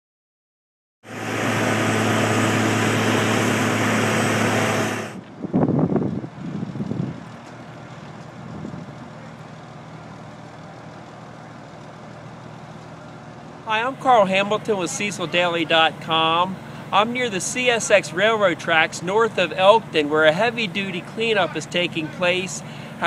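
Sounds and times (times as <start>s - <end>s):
diesel engine running: 1.0s - 23.0s.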